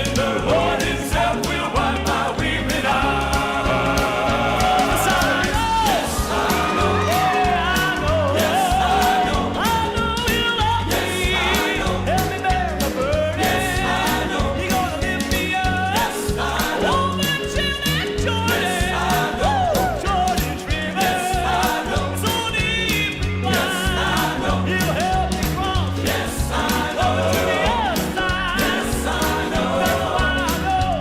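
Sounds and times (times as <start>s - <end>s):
band playing bass and drum beat: 0.0s - 31.0s
male vocal quartet singing: 0.0s - 31.0s.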